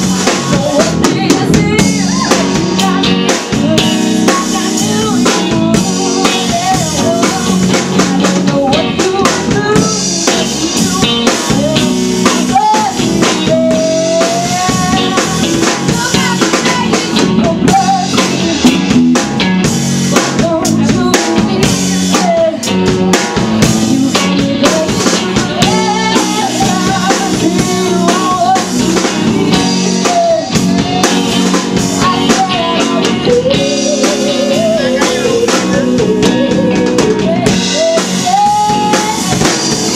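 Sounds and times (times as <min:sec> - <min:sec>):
bass: 0:00.0 - 0:39.9
drum kit beat: 0:00.0 - 0:39.9.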